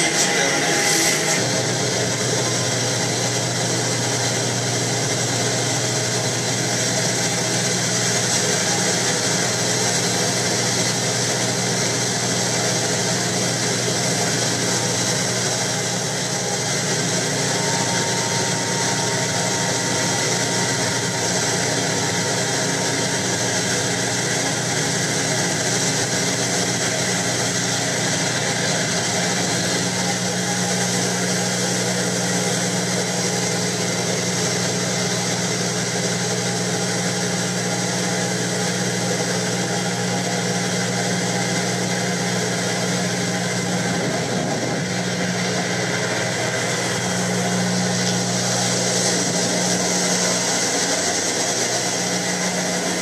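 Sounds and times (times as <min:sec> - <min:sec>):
boat engine humming: 0:00.0 - 0:53.0
hiss of wind and water: 0:01.4 - 0:53.0.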